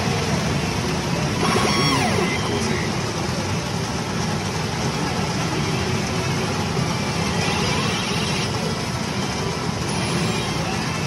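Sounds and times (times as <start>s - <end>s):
pachinko machines and steel balls: 0.0s - 11.0s.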